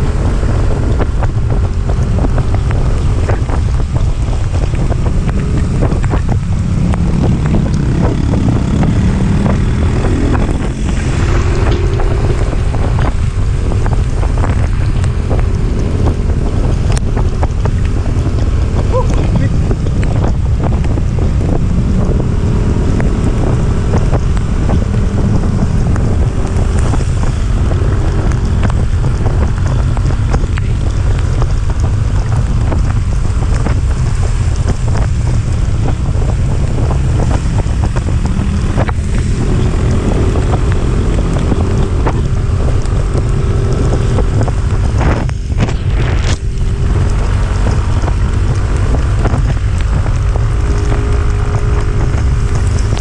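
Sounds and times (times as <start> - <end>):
vehicle engine hum: 0.0 - 53.0
wind buffeting microphone: 0.0 - 53.0.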